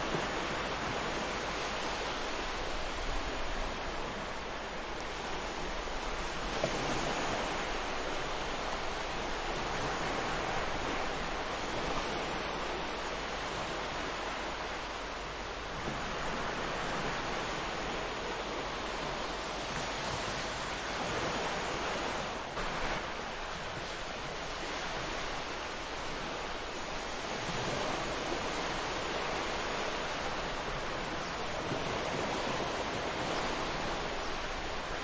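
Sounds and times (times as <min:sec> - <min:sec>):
ocean waves breaking on beach: 0:00.0 - 0:35.0
wind on microphone: 0:00.0 - 0:35.0.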